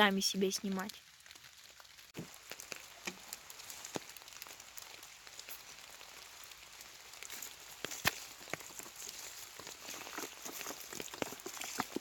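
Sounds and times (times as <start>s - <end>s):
drops ticking on leaves: 0.0s - 12.0s
light rain hissing: 0.0s - 12.0s.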